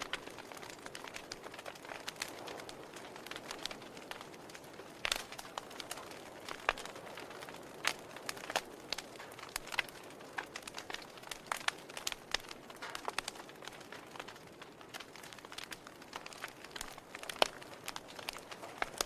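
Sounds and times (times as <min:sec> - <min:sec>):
soft hiss of fire: 0:00.0 - 0:19.0
wood fire crackling and popping: 0:00.0 - 0:19.0.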